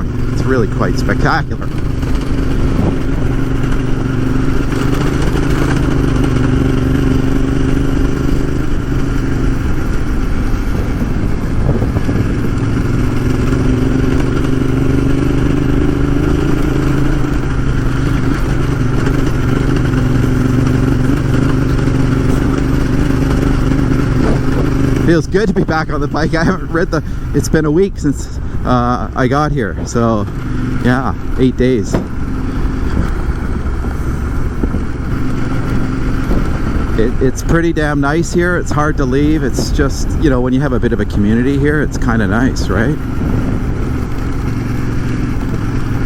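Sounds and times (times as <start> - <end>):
wind noise: 0.0 - 6.5, 7.4 - 16.5, 20.8 - 46.0
motorcycle engine running: 0.0 - 46.0.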